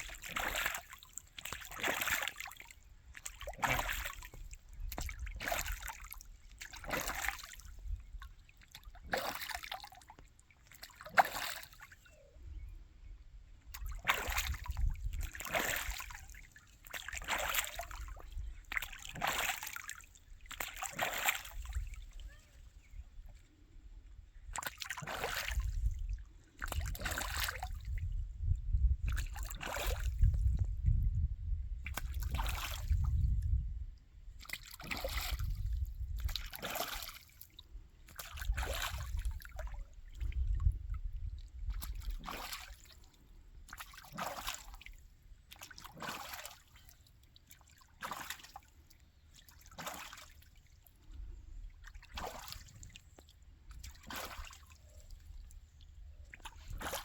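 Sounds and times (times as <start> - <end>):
birds splashing in water: 0.0 - 12.3, 13.7 - 23.0, 24.4 - 28.0, 34.4 - 40.7, 41.5 - 57.0.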